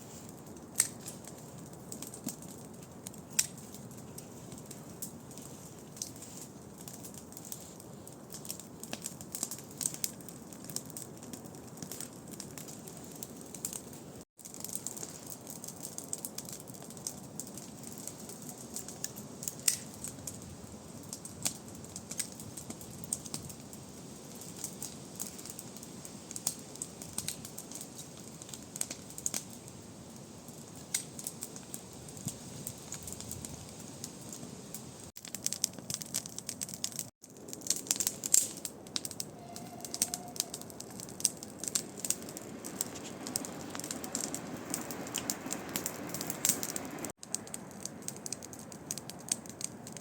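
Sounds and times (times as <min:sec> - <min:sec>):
campfire crackling: 0:00.0 - 0:50.0.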